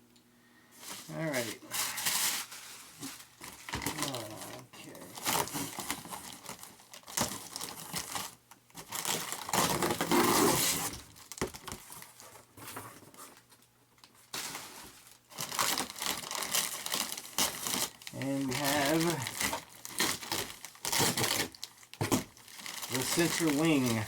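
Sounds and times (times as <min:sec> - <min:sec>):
plastic packing crinkling and tearing: 0:01.1 - 0:12.4, 0:13.2 - 0:24.0.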